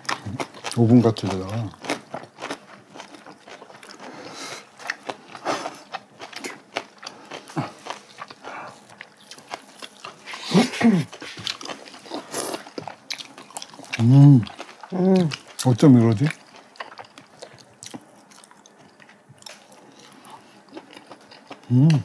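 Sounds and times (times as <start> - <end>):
chewing and slurping: 0.0 - 22.0.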